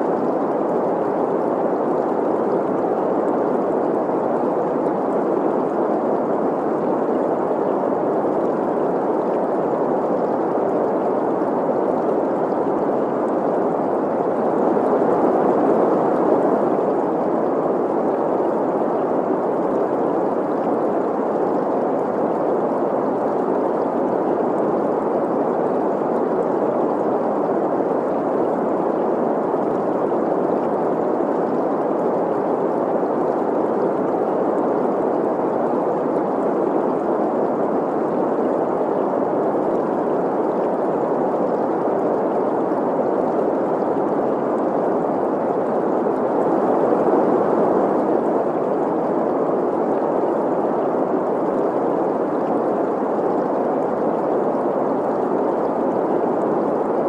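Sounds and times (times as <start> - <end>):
flowing stream: 0.0 - 57.0.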